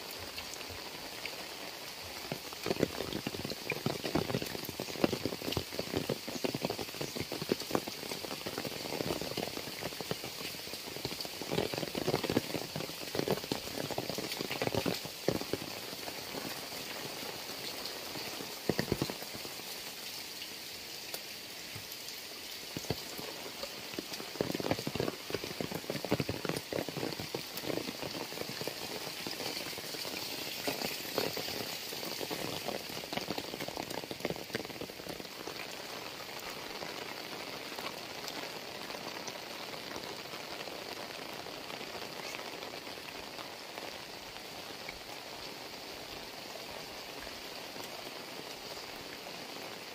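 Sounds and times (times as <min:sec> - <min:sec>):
heavy rain on pavement and foliage: 0:00.0 - 0:49.9.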